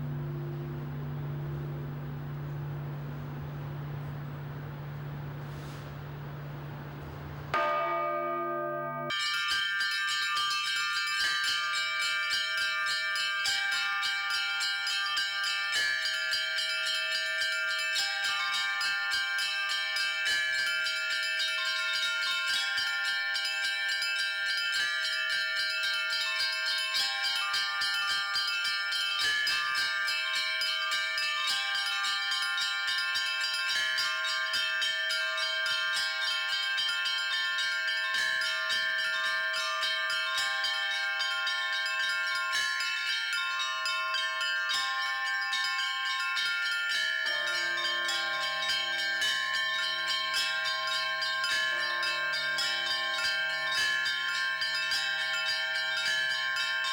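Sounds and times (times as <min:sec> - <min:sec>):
church bells pealing: 0:07.2 - 0:56.9.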